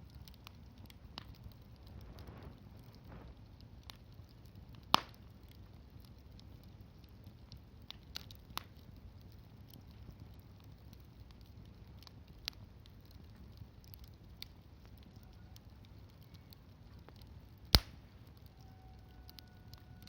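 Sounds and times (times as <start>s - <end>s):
wood campfire crackling: 0.0s - 20.0s.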